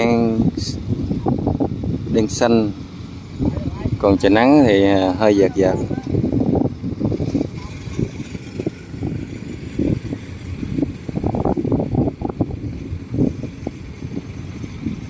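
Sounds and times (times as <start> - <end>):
farm machinery engine running: 0.0 - 15.0
wind buffeting microphone: 0.0 - 15.0.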